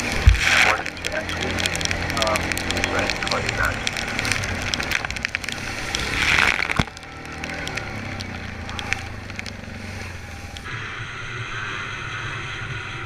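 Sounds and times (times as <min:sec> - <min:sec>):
crackling clicks: 0:00.0 - 0:10.7
sharp crack: 0:00.0 - 0:10.7
motorcycle engine rumbling: 0:00.0 - 0:13.0
wind: 0:00.0 - 0:13.0.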